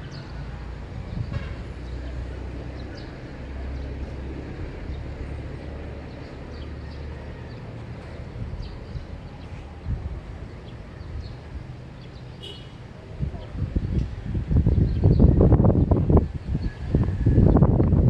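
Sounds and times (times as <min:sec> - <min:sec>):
low vehicle rumble: 0:00.0 - 0:18.0.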